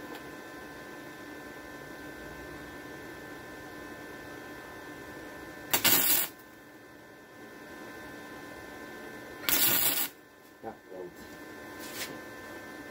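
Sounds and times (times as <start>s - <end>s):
steady electrical hum: 0.0s - 12.9s.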